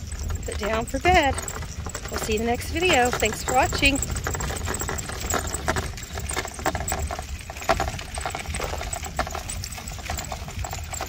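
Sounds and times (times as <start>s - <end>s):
stroller wheels crunching on gravel: 0.0s - 11.0s
wind rumble on microphone: 0.0s - 11.0s.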